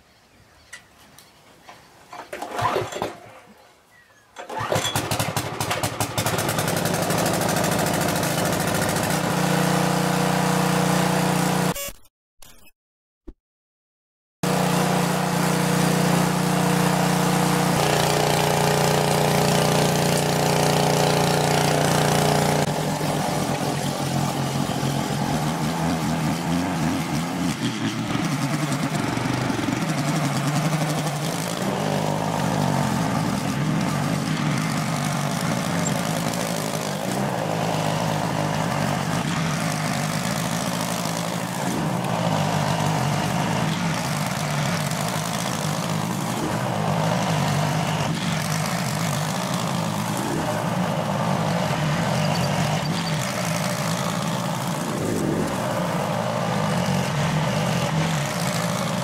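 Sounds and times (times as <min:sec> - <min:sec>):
garden tiller engine running: 0:02.1 - 0:03.6, 0:04.4 - 0:11.8, 0:14.4 - 0:59.0.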